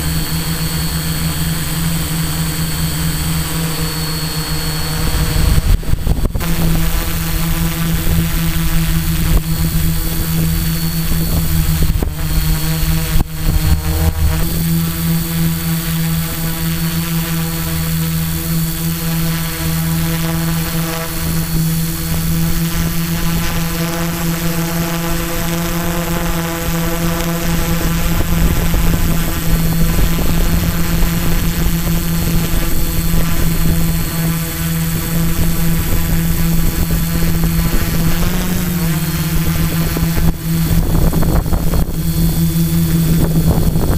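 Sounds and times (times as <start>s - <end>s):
quadcopter propellers buzzing: 0.0s - 43.9s.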